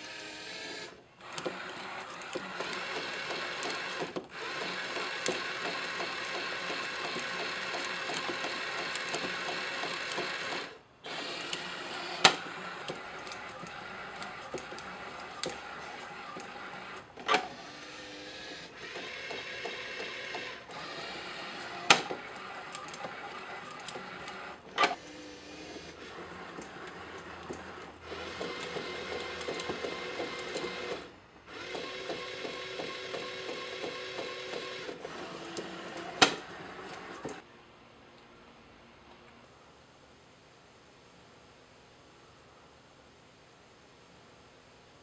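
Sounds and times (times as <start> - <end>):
mechanical whir of motor: 0.0 - 37.4.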